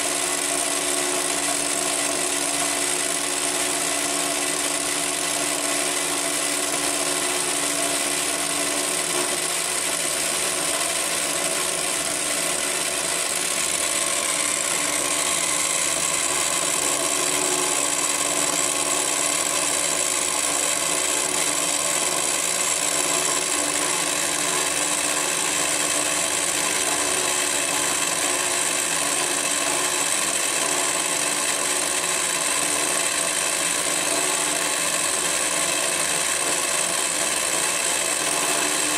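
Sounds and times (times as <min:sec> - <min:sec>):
end mill cutting metal: 0:00.0 - 0:38.9.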